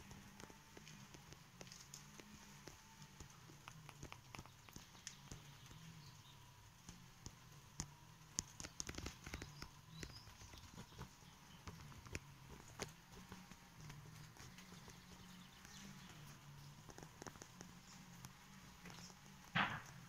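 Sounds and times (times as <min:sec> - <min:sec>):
faint clicks and taps: 0:00.0 - 0:20.0
faint low hum: 0:00.0 - 0:20.0.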